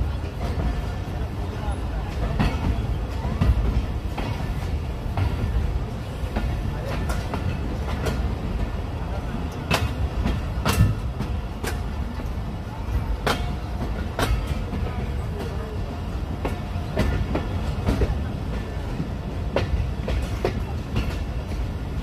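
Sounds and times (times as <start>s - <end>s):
train coaches rumbling: 0.0s - 22.0s
wheels clacking over rail joints: 0.0s - 22.0s.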